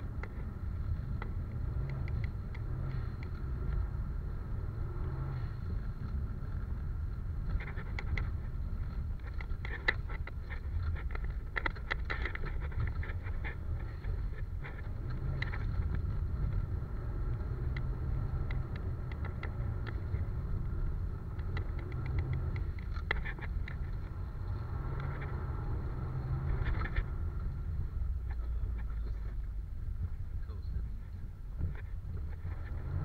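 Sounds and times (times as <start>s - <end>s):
car engine rumbling: 0.0s - 33.0s
sharp clicks and rattles: 0.0s - 33.0s.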